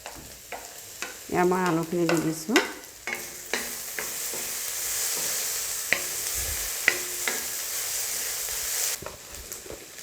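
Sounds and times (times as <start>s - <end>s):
spatula scraping a pan: 0.0s - 9.9s
potatoes sizzling in hot oil: 0.0s - 10.0s.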